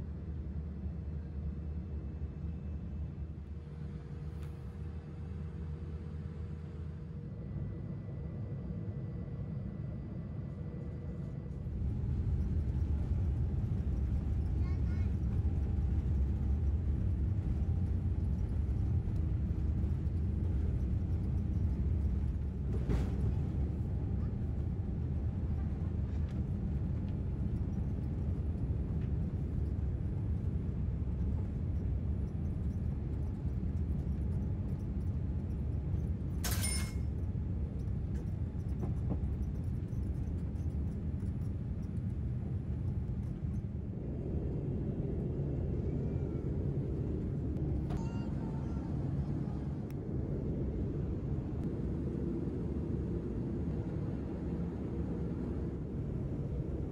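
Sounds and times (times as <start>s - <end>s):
jet engines rumbling: 4.8s - 56.9s.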